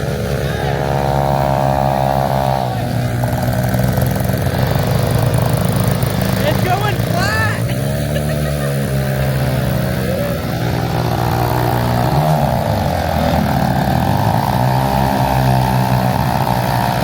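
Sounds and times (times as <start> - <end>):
large engine running loudly: 0.0 - 17.0.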